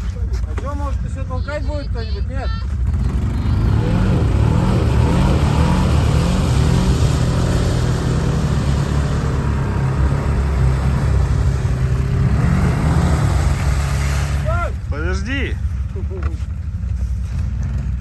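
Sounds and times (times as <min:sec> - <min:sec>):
atv engine revving: 0:01.1 - 0:18.0.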